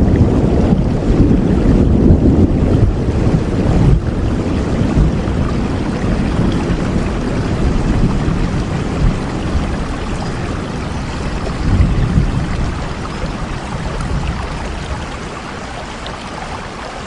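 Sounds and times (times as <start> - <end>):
low rumble: 0.0 - 15.3
rain falling: 0.0 - 17.0.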